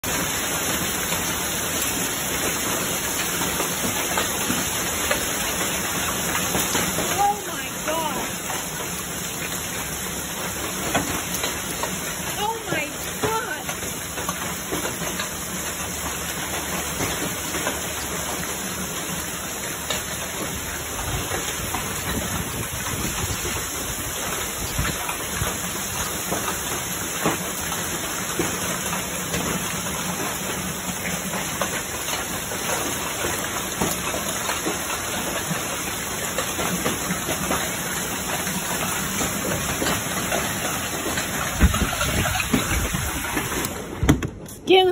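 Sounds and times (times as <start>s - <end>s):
heavy rain hissing: 0.0s - 44.1s
hailstones ticking: 0.0s - 44.9s.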